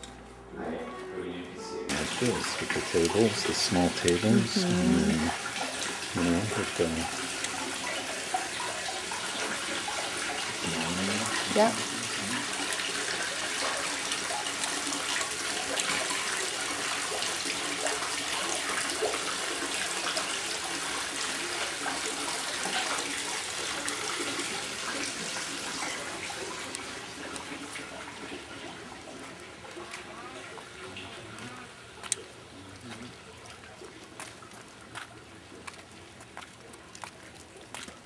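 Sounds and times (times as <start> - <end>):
running water: 1.8 - 38.0.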